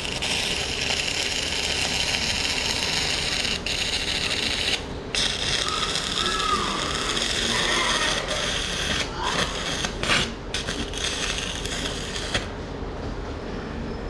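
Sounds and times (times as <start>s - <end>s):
welding arc crackling hiss: 0.0s - 12.5s.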